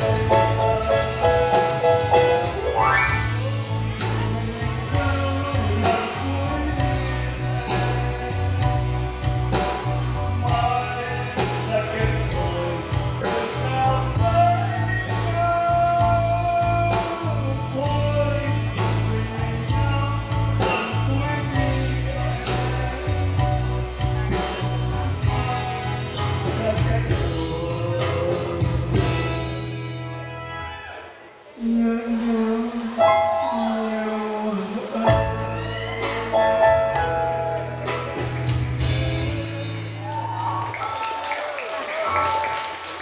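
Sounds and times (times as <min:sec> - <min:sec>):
man singing into microphone: 0:00.0 - 0:02.5, 0:03.1 - 0:09.2, 0:10.0 - 0:29.6, 0:31.6 - 0:38.1, 0:38.8 - 0:40.4
backing music with bass: 0:00.0 - 0:31.0, 0:31.6 - 0:42.2.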